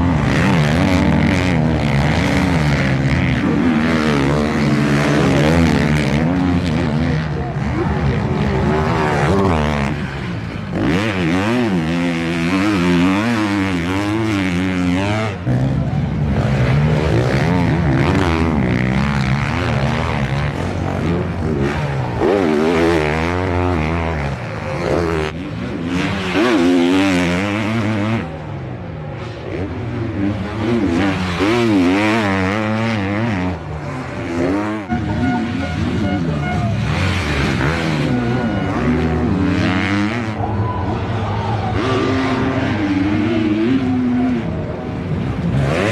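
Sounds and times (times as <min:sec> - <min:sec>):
motocross engines revving: 0:00.0 - 0:45.9.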